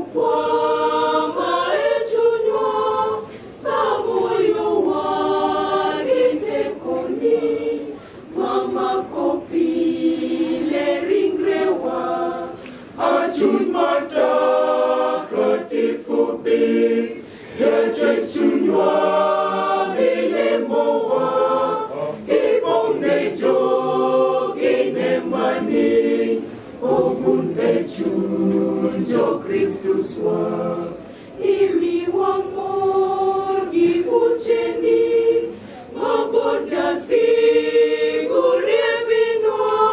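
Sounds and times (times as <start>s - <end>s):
choir singing a hymn unaccompanied: 0.0s - 39.9s.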